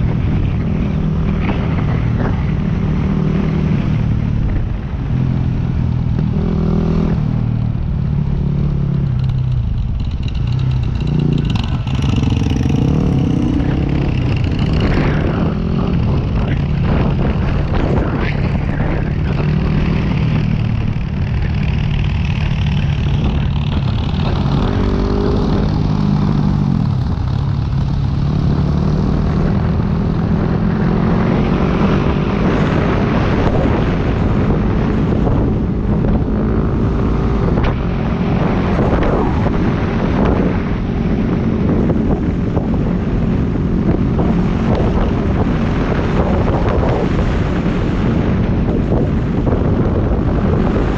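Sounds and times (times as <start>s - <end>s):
motorcycle engine running: 0.0s - 50.9s
wind rushing over microphone: 0.0s - 50.9s.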